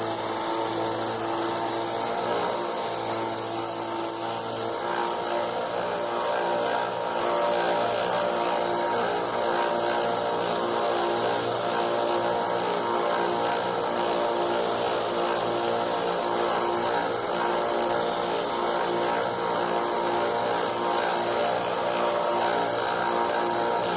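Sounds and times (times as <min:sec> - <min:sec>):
bench sander grinding: 0:00.0 - 0:23.9.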